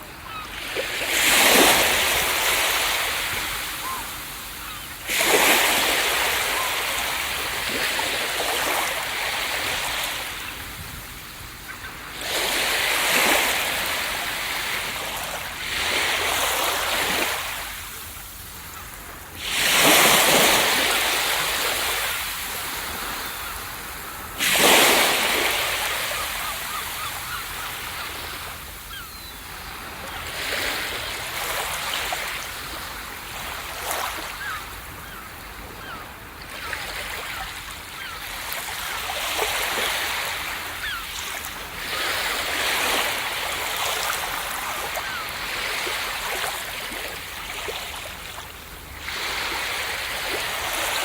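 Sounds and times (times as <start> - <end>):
ocean waves breaking: 0.0 - 51.0.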